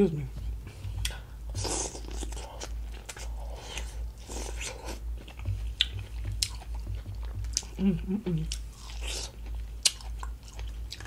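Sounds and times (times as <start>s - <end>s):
person biting and chewing corn: 1.0s - 7.8s, 8.5s - 11.0s.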